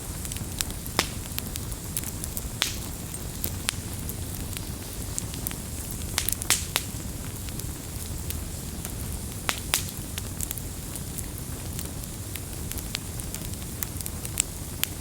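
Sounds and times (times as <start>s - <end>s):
campfire crackling and popping: 0.0s - 15.0s
flames low rumble: 0.0s - 15.0s.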